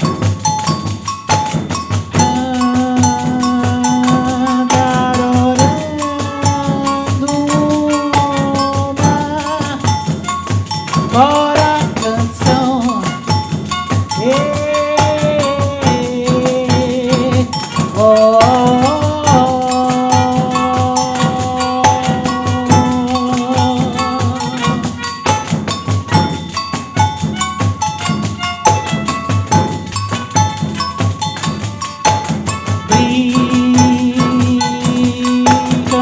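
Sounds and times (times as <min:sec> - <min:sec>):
pandeiros playing fast rhythm: 0:00.0 - 0:36.0.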